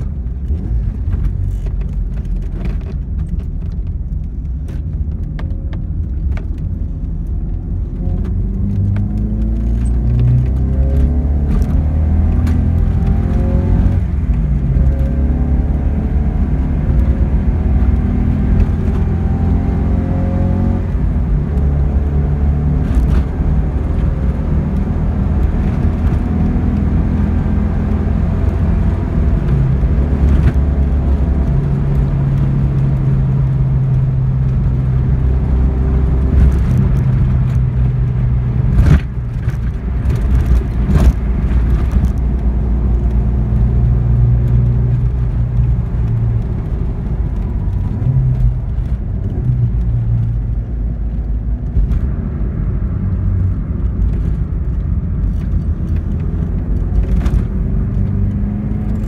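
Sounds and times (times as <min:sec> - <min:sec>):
car engine accelerating through gears: 0:00.0 - 0:59.0
road noise: 0:00.0 - 0:59.0.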